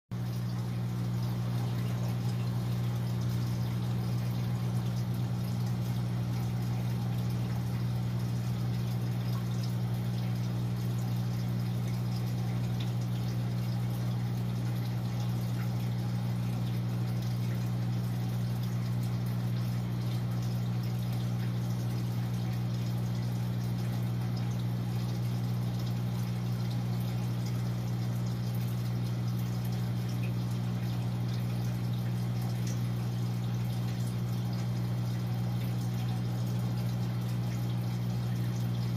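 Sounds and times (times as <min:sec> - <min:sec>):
pump humming: 0:00.1 - 0:38.9
water trickling: 0:00.1 - 0:38.9.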